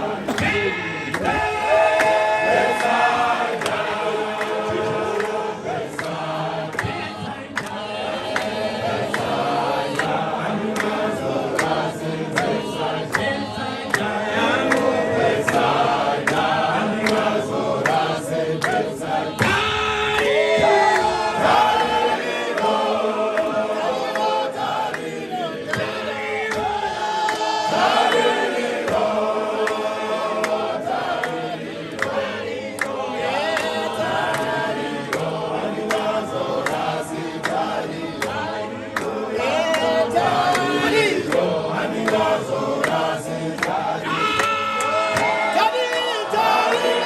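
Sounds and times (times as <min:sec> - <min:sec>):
group singing unaccompanied: 0:00.0 - 0:47.0.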